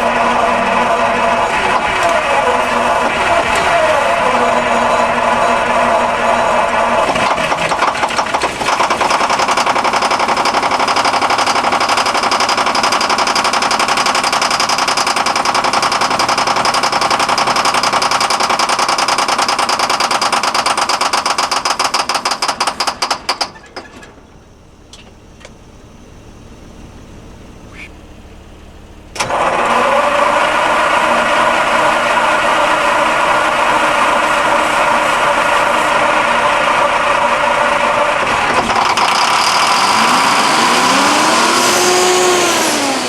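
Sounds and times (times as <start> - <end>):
diesel engine starting: 0.0 - 43.0.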